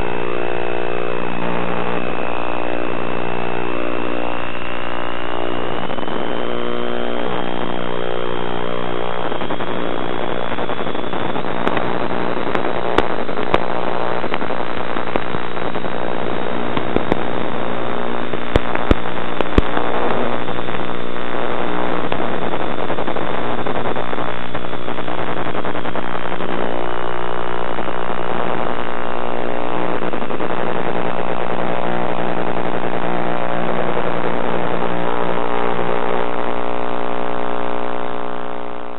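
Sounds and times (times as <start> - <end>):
noisy air rush: 0.0 - 38.9.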